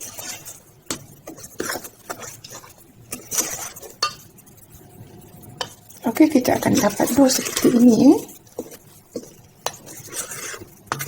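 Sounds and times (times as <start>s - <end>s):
spatula scraping mixing bowl: 0.0s - 11.0s
wet squish of batter: 0.0s - 11.0s.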